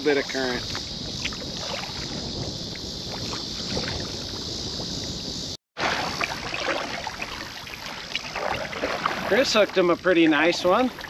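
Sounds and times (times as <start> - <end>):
paddle splashes and drips: 0.0 - 4.4, 5.8 - 11.0
wind on microphone: 0.0 - 11.0.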